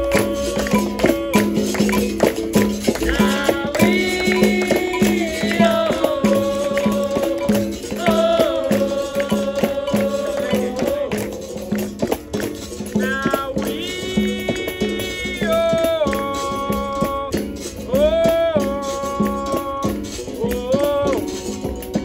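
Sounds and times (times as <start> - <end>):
chorus of voices: 0.0 - 22.0
frame drum: 0.0 - 22.0
shaken rattle: 0.0 - 22.0
voices singing: 0.0 - 22.0.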